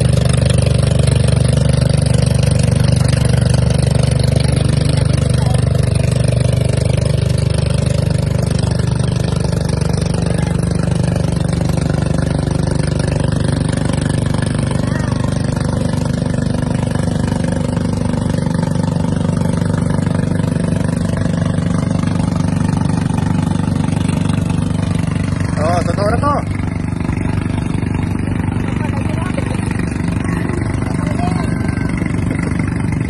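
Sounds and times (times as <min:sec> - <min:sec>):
boat engine idling: 0:00.0 - 0:33.0.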